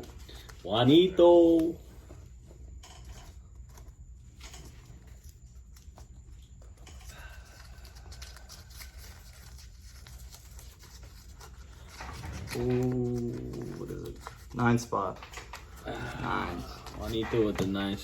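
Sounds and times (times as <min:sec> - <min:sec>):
paper rustling: 0:00.0 - 0:18.0
steady low hum: 0:00.0 - 0:18.0.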